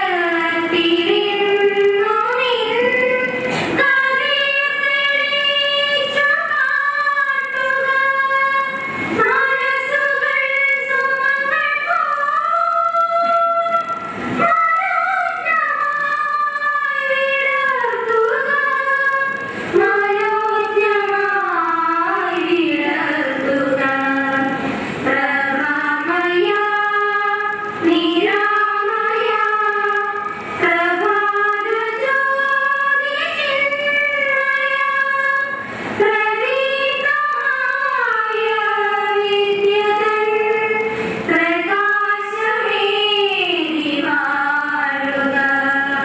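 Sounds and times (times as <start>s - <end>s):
women singing unaccompanied: 0.0s - 46.0s.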